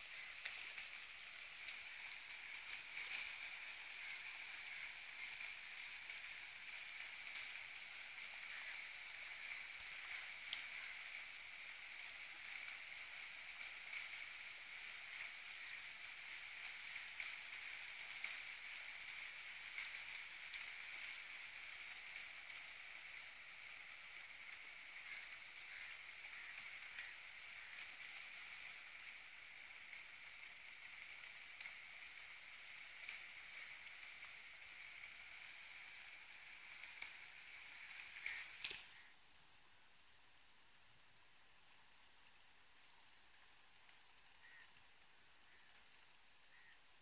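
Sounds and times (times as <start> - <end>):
faint sizzling hiss: 0.0 - 47.0
small crackles: 0.0 - 47.0.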